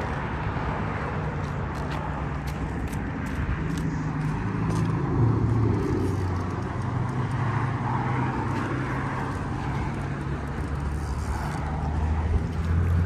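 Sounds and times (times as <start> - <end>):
highway traffic rushing: 0.0 - 13.0.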